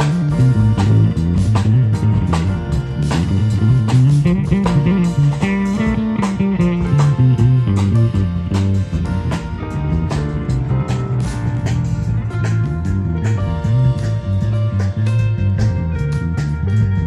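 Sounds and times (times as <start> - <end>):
live band instrumental: 0.0 - 17.0
low bass line: 0.0 - 17.0.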